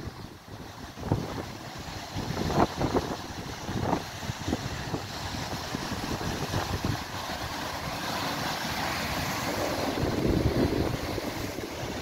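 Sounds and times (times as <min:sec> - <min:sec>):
wind buffeting microphone: 0:00.0 - 0:07.8, 0:09.2 - 0:12.0
surf breaking over rocks: 0:00.0 - 0:12.0.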